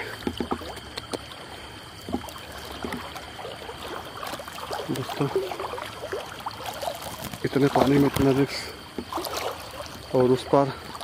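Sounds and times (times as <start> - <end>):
person wading through water: 0.0 - 11.0.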